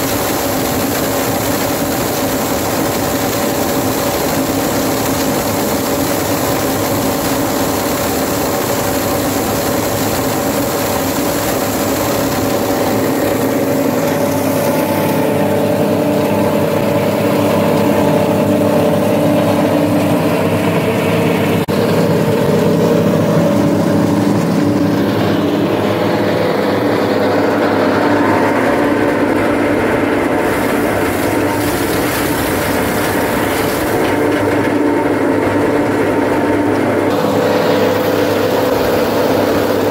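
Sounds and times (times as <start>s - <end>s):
plastic shredder running: 0.0s - 39.9s.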